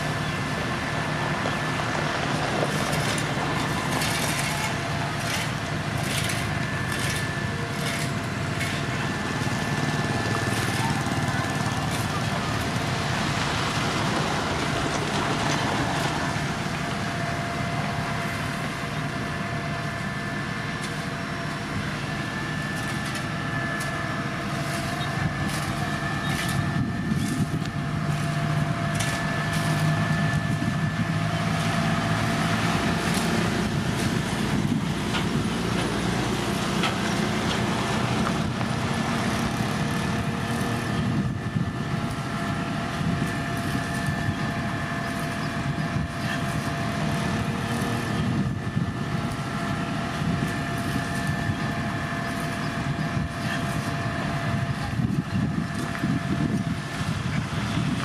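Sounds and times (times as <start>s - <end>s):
heavy machinery diesel engine: 0.0s - 58.0s
steady whine: 0.0s - 58.0s.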